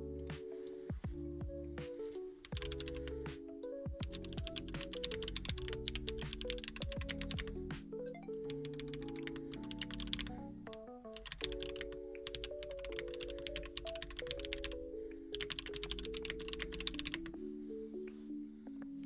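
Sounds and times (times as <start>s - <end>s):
background music with held chords: 0.0s - 19.0s
typing on a keyboard: 2.0s - 17.3s.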